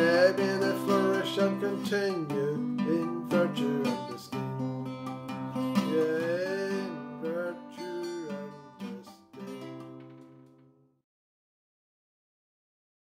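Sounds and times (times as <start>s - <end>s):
acoustic guitar strumming: 0.0s - 10.9s.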